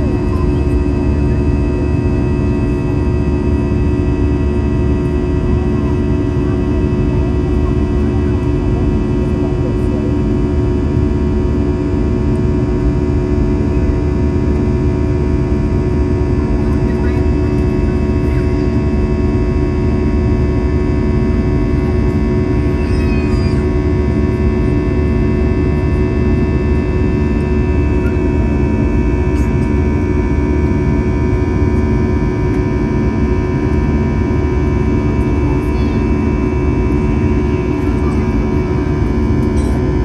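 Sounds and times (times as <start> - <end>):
buzzing fan tones: 0.0 - 40.0
jet engine drone in cabin: 0.0 - 40.0.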